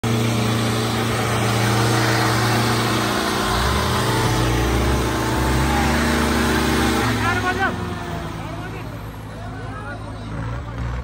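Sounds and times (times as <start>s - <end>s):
crowd noise: 0.0s - 11.0s
tractor diesel engine droning: 0.0s - 11.0s.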